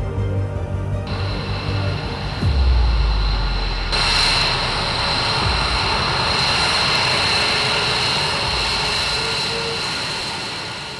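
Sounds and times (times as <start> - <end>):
jet engine whine: 0.8 - 10.9
exhaust rush: 1.1 - 10.9.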